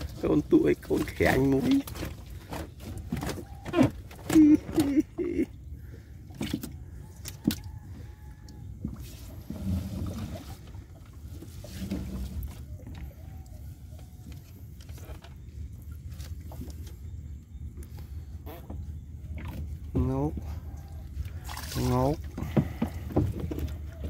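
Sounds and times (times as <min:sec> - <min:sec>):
low steady rumble: 0:02.1 - 0:24.0.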